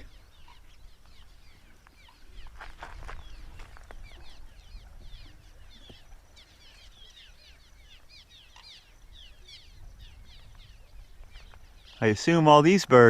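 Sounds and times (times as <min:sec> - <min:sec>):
flock of birds chirping: 0:00.0 - 0:13.0.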